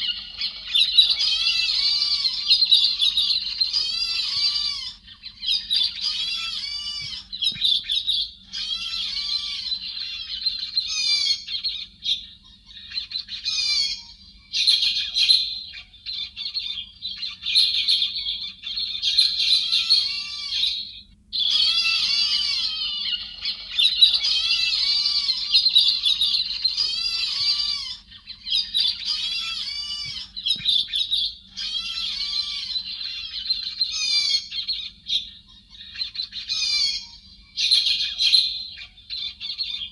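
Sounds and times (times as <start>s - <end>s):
faint low hum: 0.0s - 39.9s
whistled bird calls: 0.0s - 39.9s.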